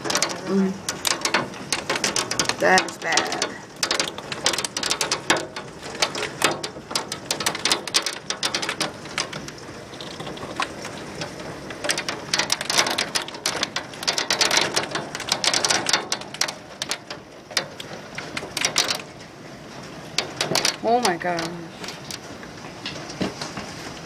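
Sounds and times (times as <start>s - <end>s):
hailstones clattering: 0.0s - 24.0s.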